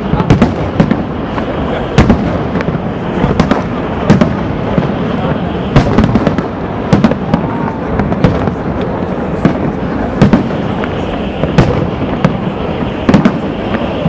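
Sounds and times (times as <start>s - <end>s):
firework shells bursting: 0.0s - 14.0s.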